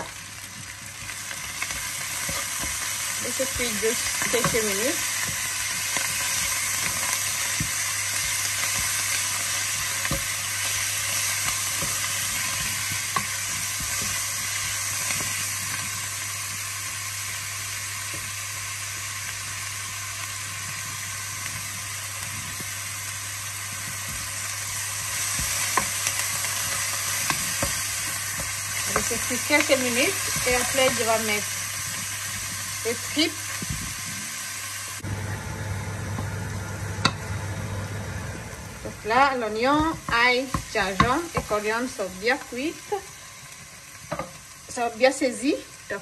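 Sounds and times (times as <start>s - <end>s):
aromatics sizzling in a pot: 0.0s - 46.0s.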